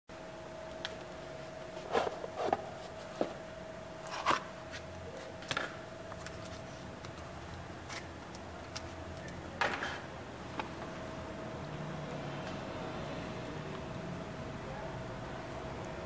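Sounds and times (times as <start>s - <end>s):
faint steady hum: 0.1s - 16.0s.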